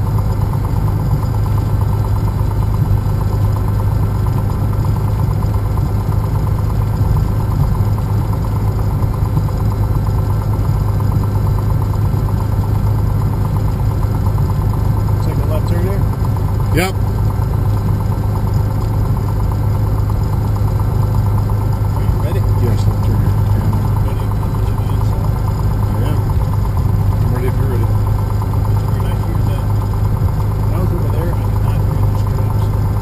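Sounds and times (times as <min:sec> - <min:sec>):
aircraft piston engine running: 0:00.0 - 0:33.0.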